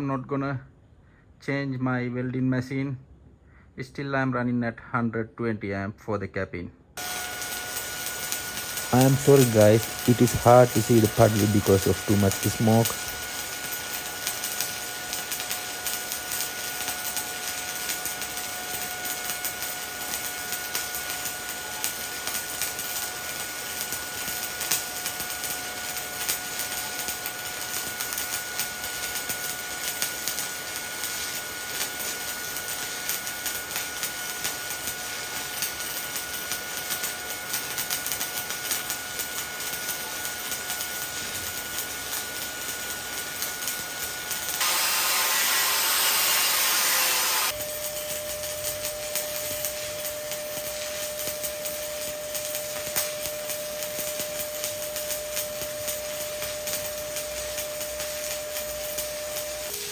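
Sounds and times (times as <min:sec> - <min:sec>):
welding arc crackling: 0:07.0 - 0:59.9.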